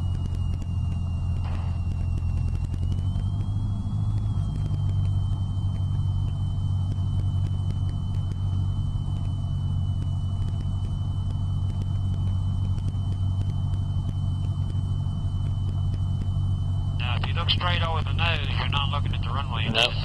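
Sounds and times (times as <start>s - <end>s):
airplane engine droning: 0.0s - 20.0s
thin high whine: 0.0s - 20.0s.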